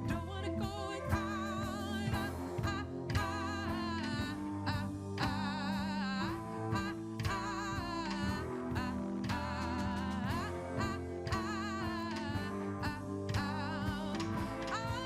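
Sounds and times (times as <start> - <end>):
live band playing pop-soul: 0.0 - 15.0.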